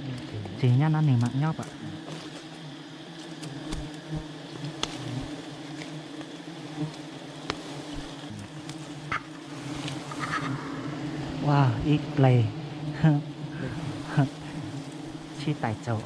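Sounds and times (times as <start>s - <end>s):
bees buzzing: 0.0s - 16.0s.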